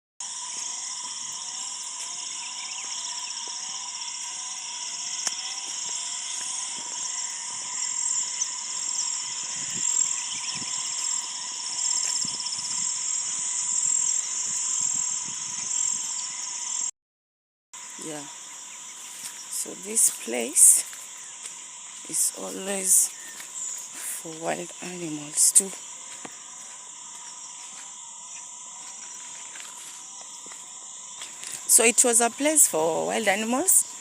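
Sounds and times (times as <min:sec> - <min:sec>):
crickets and insects trilling: 0:00.2 - 0:16.9, 0:17.8 - 0:34.0.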